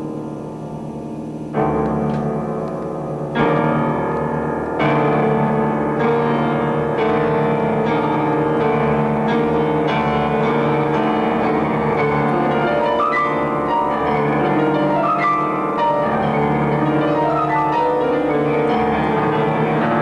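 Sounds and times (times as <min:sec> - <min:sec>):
piano-led instrumental music: 0:00.0 - 0:20.0.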